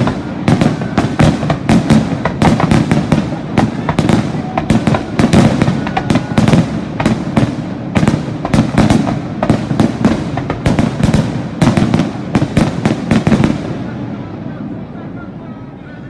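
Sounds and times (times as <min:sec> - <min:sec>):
fireworks bursting with sharp bangs: 0:00.0 - 0:15.4.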